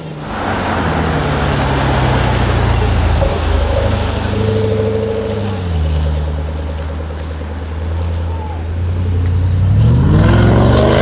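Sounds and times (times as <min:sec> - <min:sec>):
car engine and exhaust rumbling: 0:00.0 - 0:11.0.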